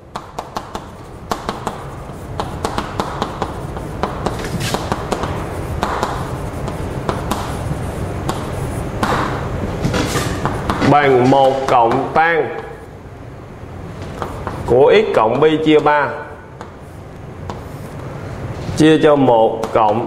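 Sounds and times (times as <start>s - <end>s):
chalk tapping on blackboard: 0.1s - 12.9s, 14.0s - 18.2s, 19.6s - 20.0s
chalk scratching on blackboard: 0.2s - 9.4s, 10.0s - 13.0s, 14.0s - 18.2s.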